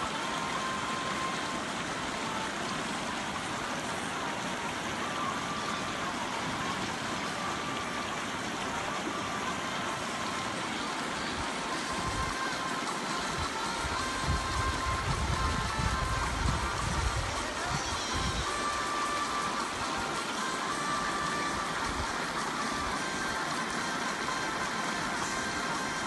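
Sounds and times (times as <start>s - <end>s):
river flowing over stones: 0.0s - 26.0s.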